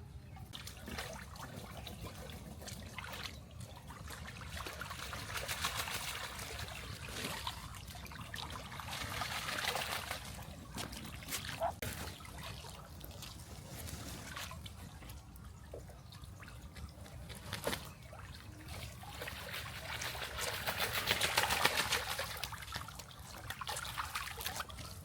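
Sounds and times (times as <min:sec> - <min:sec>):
water trickling and splashing: 0:00.1 - 0:25.0.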